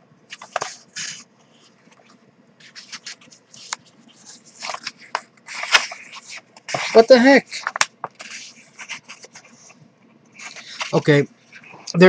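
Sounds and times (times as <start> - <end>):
paper pages rustling and turning: 0.3 - 9.8, 10.4 - 11.9.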